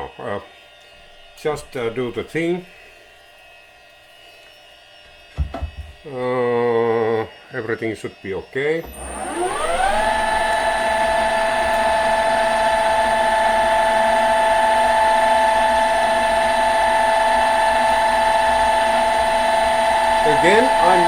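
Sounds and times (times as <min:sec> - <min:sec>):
lathe motor whine: 0:00.0 - 0:21.0.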